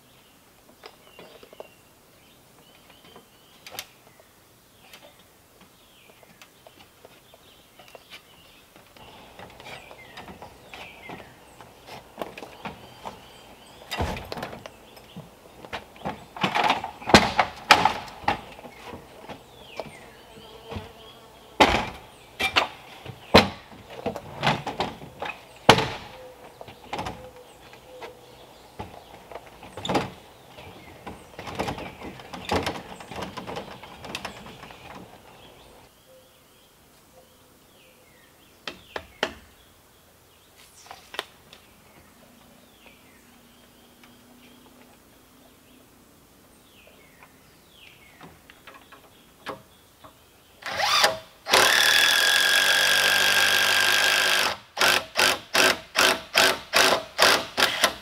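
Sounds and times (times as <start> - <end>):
birds chirping: 0.0 - 56.1.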